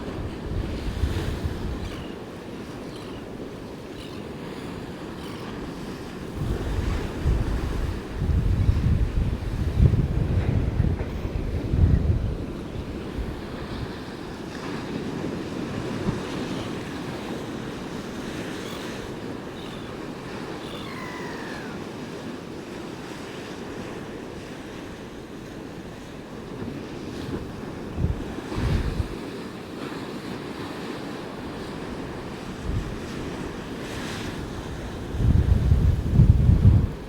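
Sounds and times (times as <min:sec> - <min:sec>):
wind buffeting microphone: 0:00.0 - 0:22.2, 0:26.0 - 0:29.3, 0:31.6 - 0:37.0
surf waves breaking: 0:00.0 - 0:37.0.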